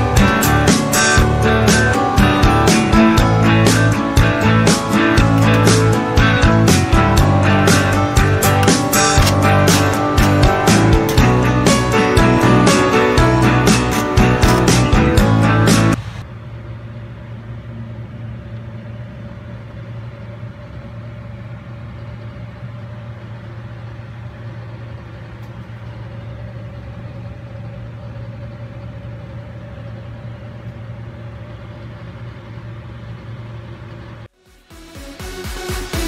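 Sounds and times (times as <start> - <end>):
low machine hum: 0.0 - 34.3.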